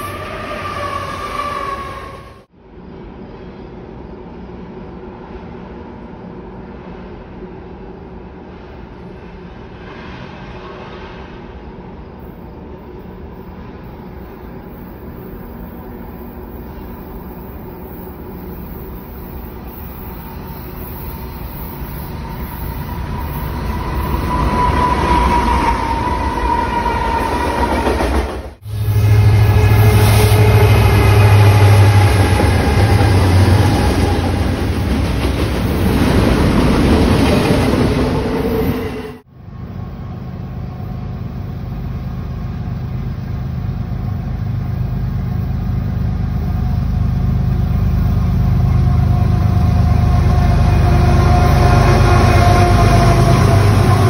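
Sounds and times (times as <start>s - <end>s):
diesel train passing: 0.0s - 54.0s
distant train: 0.0s - 54.0s.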